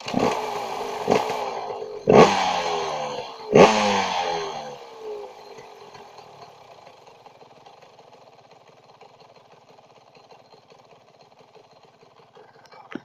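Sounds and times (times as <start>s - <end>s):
motocross engine idling: 0.0s - 13.0s.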